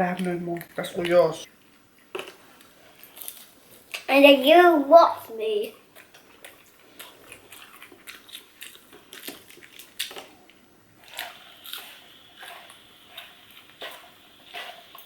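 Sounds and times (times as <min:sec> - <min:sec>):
crunchy chewing: 0:00.1 - 0:04.1, 0:05.7 - 0:15.0.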